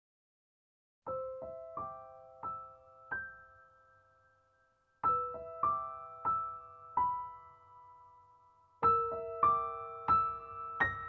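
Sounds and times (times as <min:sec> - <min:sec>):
gentle piano notes: 0:01.1 - 0:11.0.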